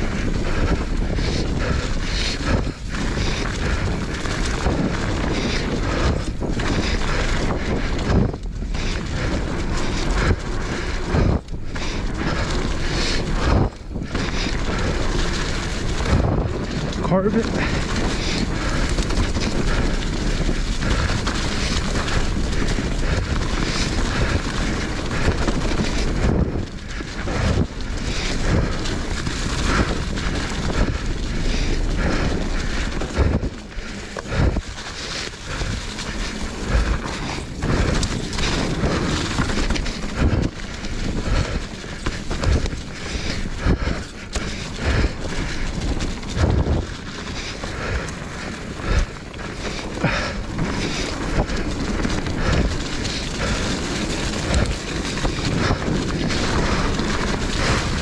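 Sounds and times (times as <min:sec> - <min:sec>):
tyres crunching over ground: 0:00.0 - 0:58.0
wind buffeting microphone: 0:00.0 - 0:58.0.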